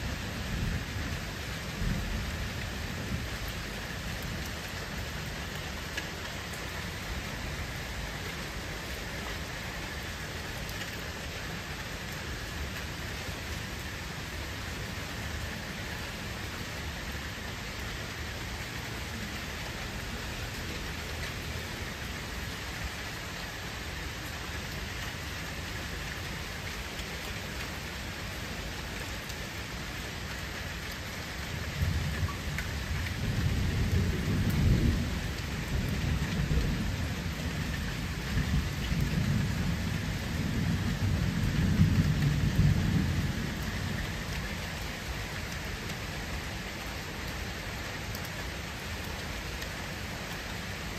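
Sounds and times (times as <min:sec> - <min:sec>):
rain falling on water: 0:00.0 - 0:50.9.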